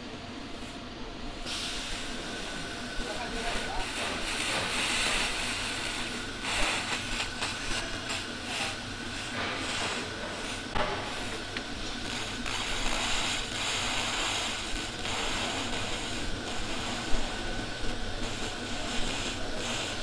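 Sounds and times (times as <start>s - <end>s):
laser cleaning hiss: 1.4s - 20.0s.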